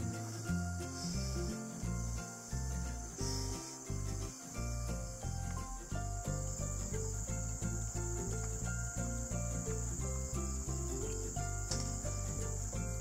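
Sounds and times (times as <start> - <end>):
melodic music with pulsing bass: 0.0 - 13.0
shrill insect drone: 0.0 - 13.0.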